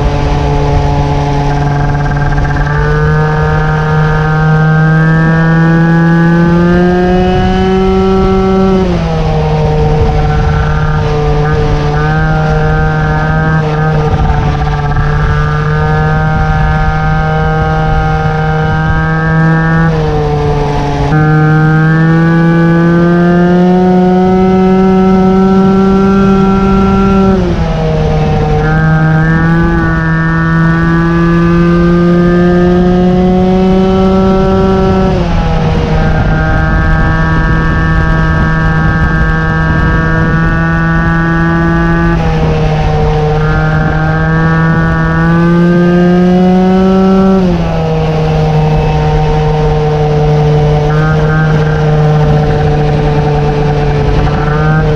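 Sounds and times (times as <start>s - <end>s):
moped engine revving high: 0.0s - 54.9s.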